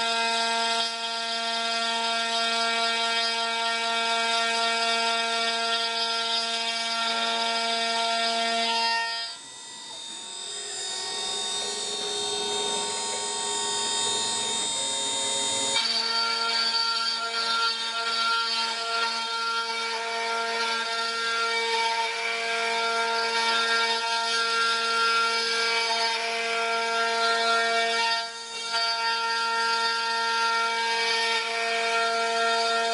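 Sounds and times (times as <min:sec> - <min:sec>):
router spindle whining: 0:00.0 - 0:32.9
wood being cut: 0:00.0 - 0:32.9.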